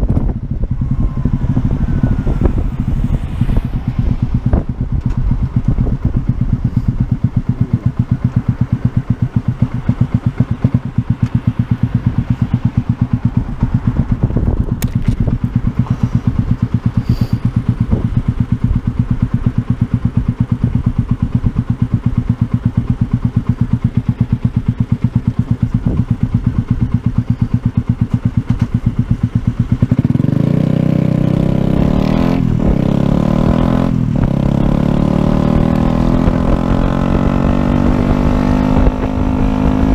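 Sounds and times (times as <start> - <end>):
motorcycle engine idling: 0.0 - 39.9
motorcycle revving and pulling away: 0.0 - 39.9.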